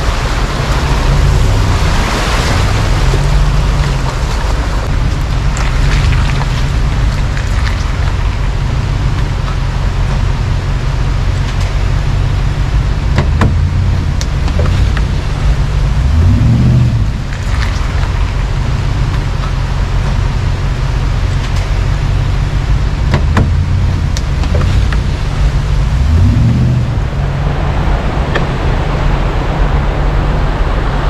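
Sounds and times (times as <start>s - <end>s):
truck knocks and rattles: 0.0s - 27.2s
pickup truck engine rumbling: 0.0s - 31.0s.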